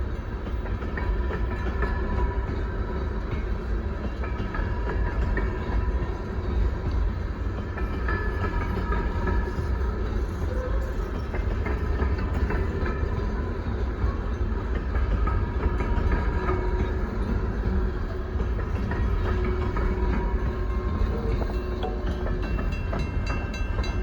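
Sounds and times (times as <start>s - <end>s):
train rumbling past: 0.0s - 24.0s
train wheel clicks: 0.0s - 24.0s
wheels squealing on rails: 0.0s - 24.0s.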